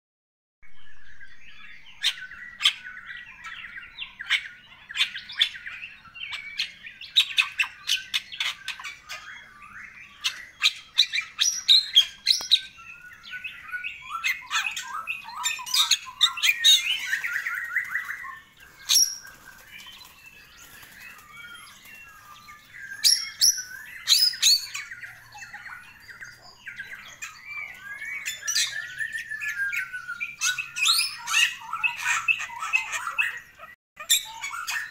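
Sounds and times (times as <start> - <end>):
bird song with squawks: 0.6 - 34.9.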